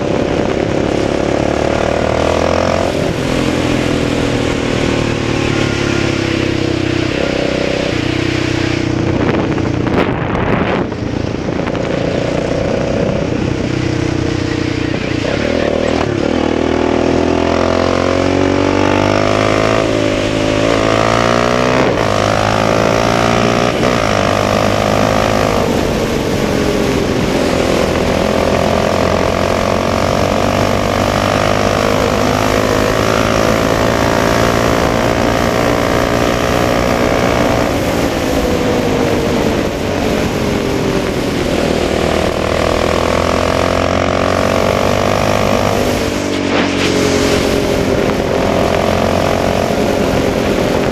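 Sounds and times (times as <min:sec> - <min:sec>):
atv engine running under load: 0:08.8 - 0:50.9.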